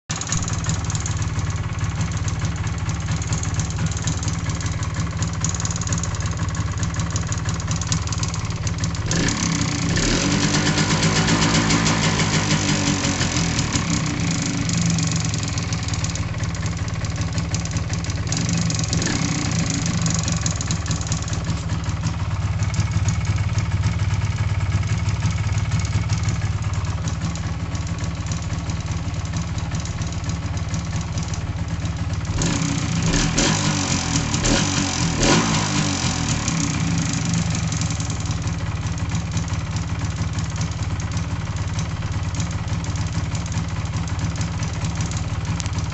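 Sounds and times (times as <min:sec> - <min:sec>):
motorcycle engine idling with rattle: 0:00.1 - 0:45.9.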